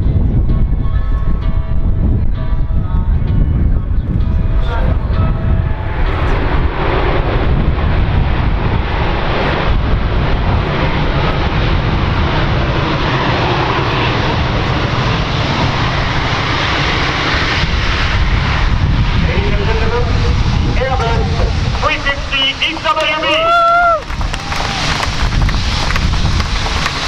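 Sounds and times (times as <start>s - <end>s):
jet engines rushing and rumbling: 0.0s - 27.0s.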